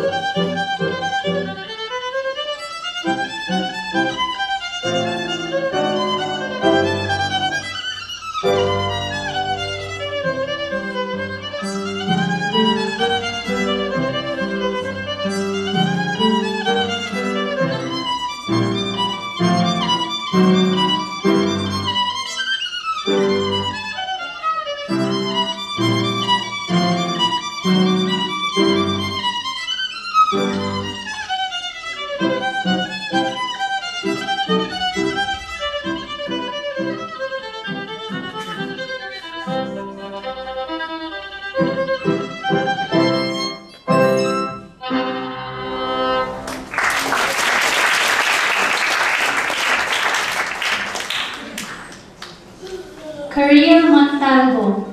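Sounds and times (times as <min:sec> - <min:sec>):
violin melody: 0:00.0 - 0:46.8.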